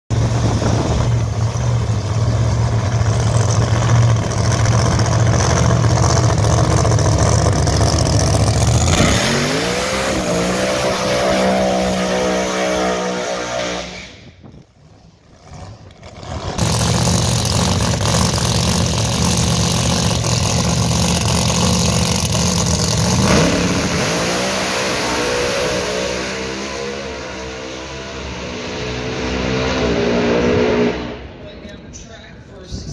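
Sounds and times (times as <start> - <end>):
drag car engine revving: 0.1 - 31.8
tyre burnout: 0.2 - 27.4.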